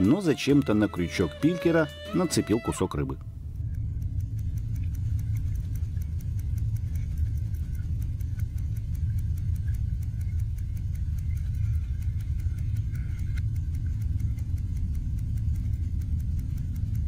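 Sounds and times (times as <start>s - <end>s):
quick regular ticking: 0.0s - 17.0s
low underwater rumble: 3.2s - 17.0s.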